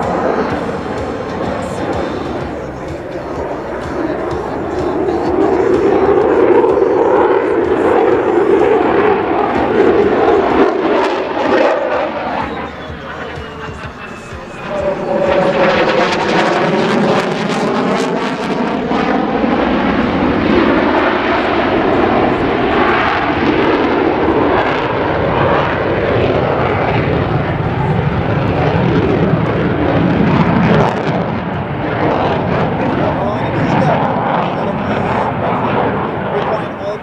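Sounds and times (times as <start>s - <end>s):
jet flying past: 0.0s - 37.0s.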